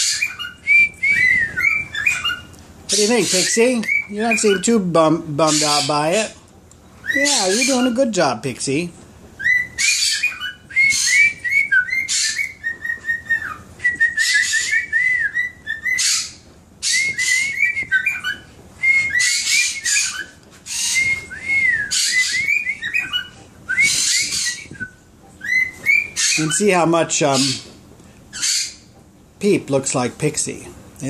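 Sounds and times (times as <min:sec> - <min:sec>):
cockatiel whistling and chattering: 0:00.0 - 0:06.3, 0:07.0 - 0:08.2, 0:09.4 - 0:28.9.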